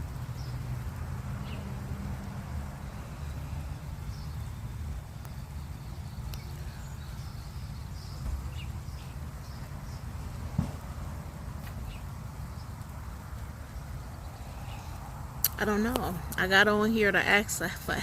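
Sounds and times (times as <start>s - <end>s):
birds chirping: 0.0s - 1.8s, 2.5s - 18.0s
steady low rumble: 0.0s - 18.0s.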